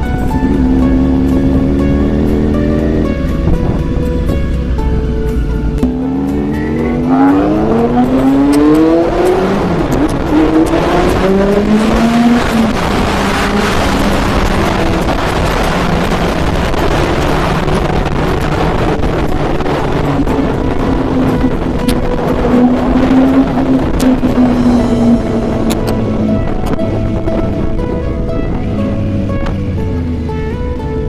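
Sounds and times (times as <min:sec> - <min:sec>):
motorcycle engine accelerating: 0:00.0 - 0:31.0
wind noise on microphone: 0:00.0 - 0:31.0.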